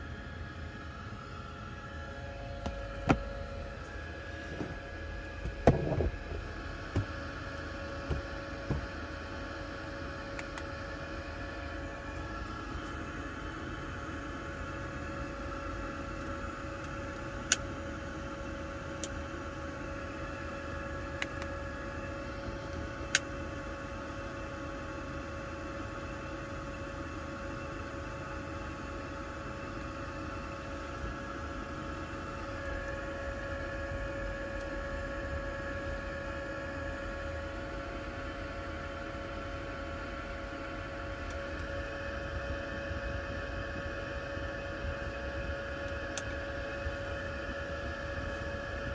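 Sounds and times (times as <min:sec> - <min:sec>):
held hum: 0:00.0 - 0:25.2, 0:29.3 - 0:48.9
heater fan whirring: 0:00.0 - 0:48.9.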